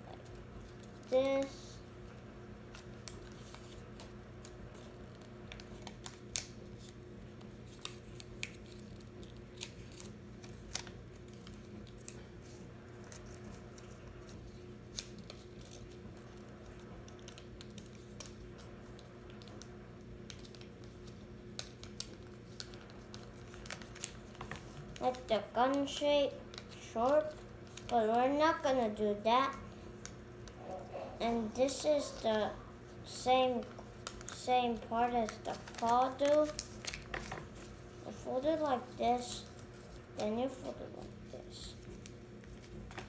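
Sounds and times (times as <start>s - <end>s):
faint steady hum: 0.0s - 43.0s
paper being folded: 2.6s - 30.6s, 33.0s - 43.0s.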